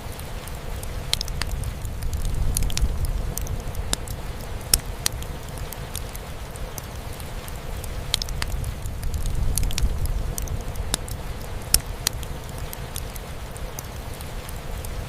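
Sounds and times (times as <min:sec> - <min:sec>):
wood fire crackling: 0:00.0 - 0:15.0
fire pops: 0:00.8 - 0:15.0.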